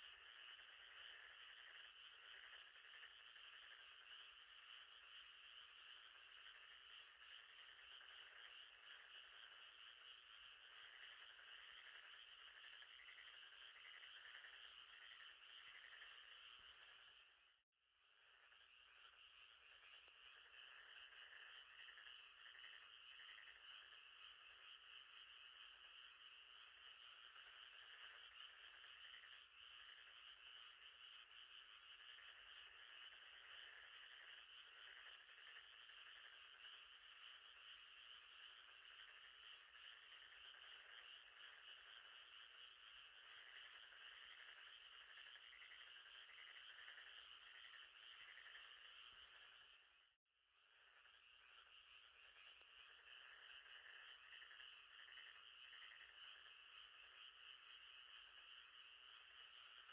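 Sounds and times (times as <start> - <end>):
frogs calling: 0.0 - 17.5, 18.2 - 50.0, 50.7 - 59.9.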